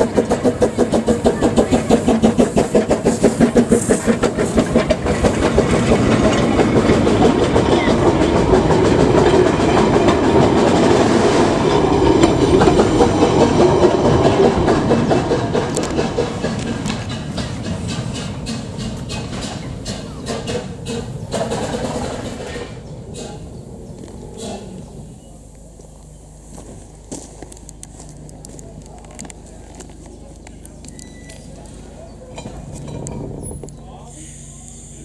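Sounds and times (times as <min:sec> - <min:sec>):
locomotive exhaust beats: 0:00.0 - 0:35.0.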